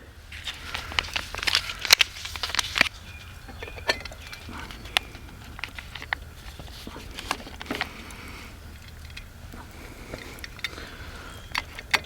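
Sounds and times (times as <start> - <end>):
low outdoor rumble: 0.0 - 12.0
camp cooking kit clicking: 0.3 - 12.0.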